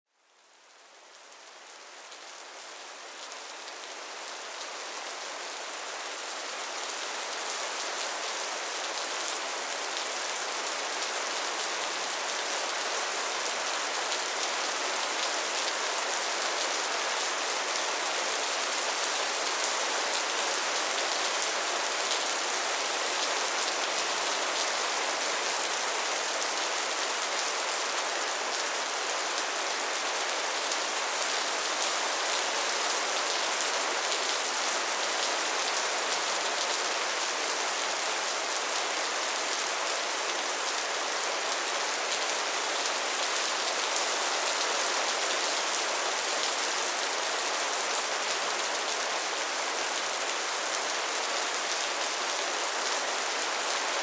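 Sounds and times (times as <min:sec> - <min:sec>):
soft rain falling: 0:00.1 - 0:54.0.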